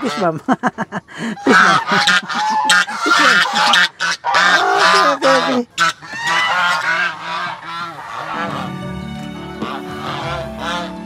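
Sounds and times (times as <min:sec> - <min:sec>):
geese honking: 0:00.0 - 0:00.5, 0:01.2 - 0:11.0.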